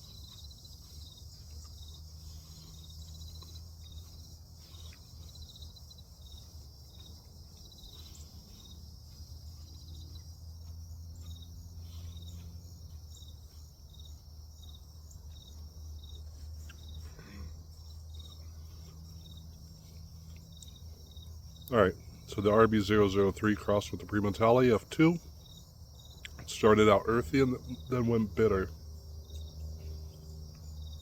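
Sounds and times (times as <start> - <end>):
crickets chirping: 0.0 - 31.0
steady low hum: 0.0 - 31.0.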